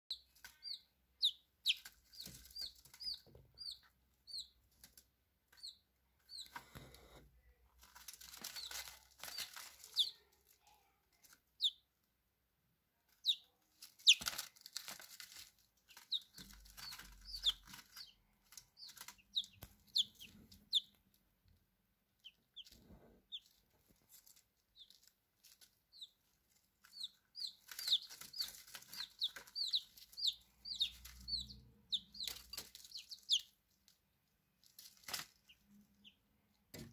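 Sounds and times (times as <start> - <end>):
chicks peeping: 0.1 - 7.2, 7.8 - 12.0, 13.1 - 21.2, 22.1 - 33.8, 34.6 - 36.9
rustling: 1.6 - 11.6, 13.1 - 21.2, 22.2 - 35.9.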